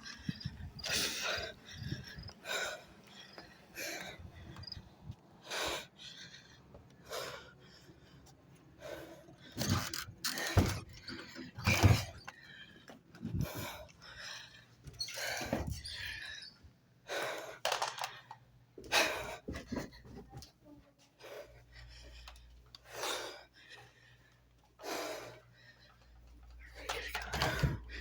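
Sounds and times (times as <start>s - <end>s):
person breathing: 0.0s - 20.2s, 21.2s - 28.0s.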